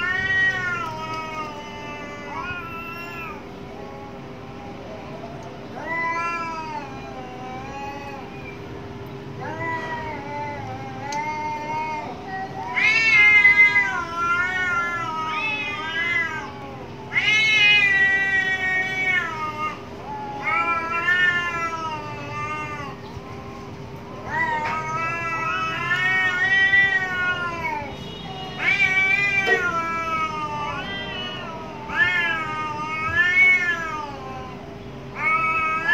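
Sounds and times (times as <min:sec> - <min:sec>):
cats yowling: 0:00.0 - 0:08.7, 0:09.4 - 0:35.9
faint steady hum: 0:00.0 - 0:35.9.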